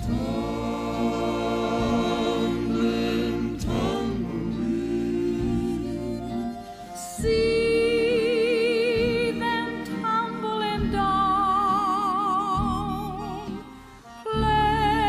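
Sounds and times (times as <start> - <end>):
low pulsing accompaniment: 0.0 - 15.0
slow melody with vibrato: 0.0 - 15.0.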